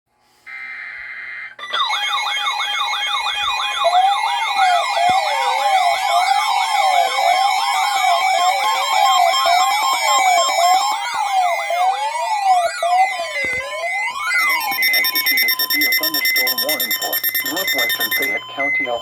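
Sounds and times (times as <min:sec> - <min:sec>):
layered electronic sirens: 0:00.4 - 0:19.0.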